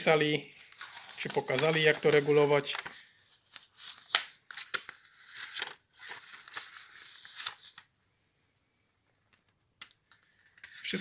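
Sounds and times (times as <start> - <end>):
paper pages rustling: 0.0 - 7.9, 9.1 - 11.0.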